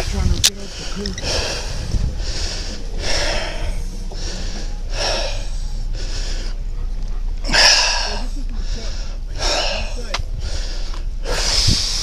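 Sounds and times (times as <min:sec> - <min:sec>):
person breathing heavily: 0:00.0 - 0:06.8, 0:07.5 - 0:12.0
steady low hum: 0:00.0 - 0:12.0.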